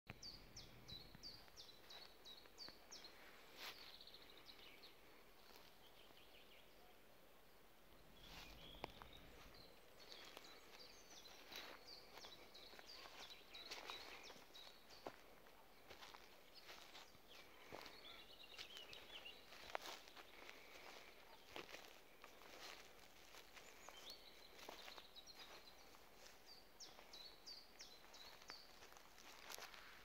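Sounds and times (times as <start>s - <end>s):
songbird chirping: 0.1s - 30.0s
footsteps in dry grass: 1.3s - 6.3s, 8.0s - 30.0s.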